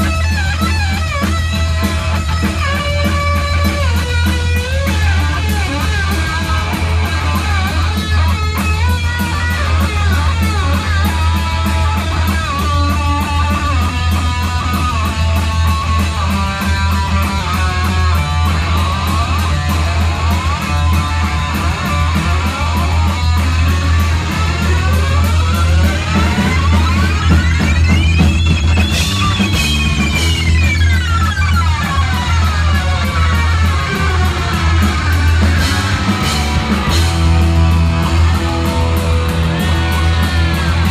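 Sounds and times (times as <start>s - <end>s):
bass guitar: 0.0s - 40.9s
distorted electric guitar solo: 0.0s - 40.9s
drums: 0.0s - 40.9s.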